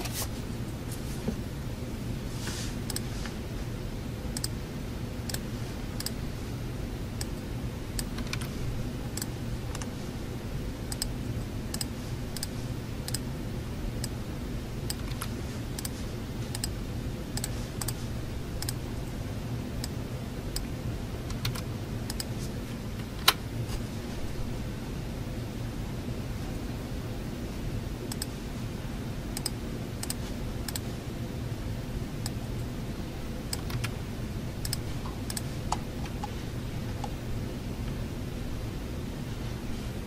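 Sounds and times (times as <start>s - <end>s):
low building hum: 0.0s - 40.0s.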